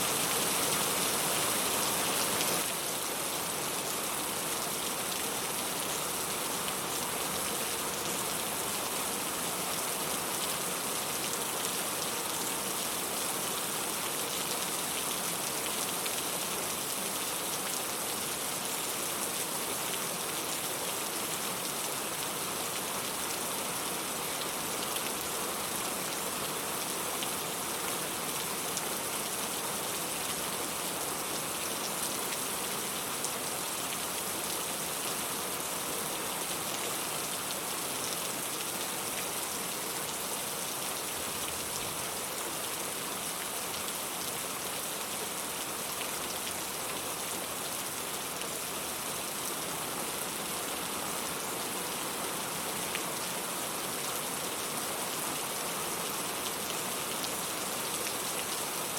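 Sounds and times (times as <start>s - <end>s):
steady rain on a surface: 0.0s - 58.9s.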